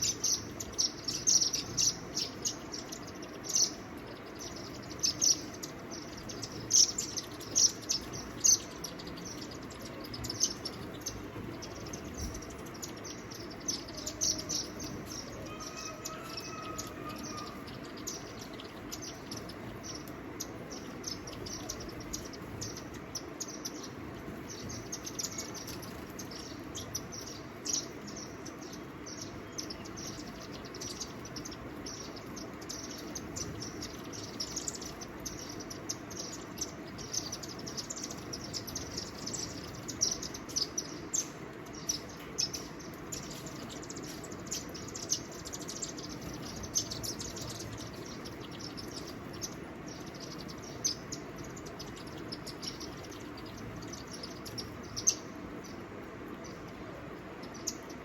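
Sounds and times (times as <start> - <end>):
low background hiss: 0.0 - 58.0
small birds chirping: 0.0 - 58.0.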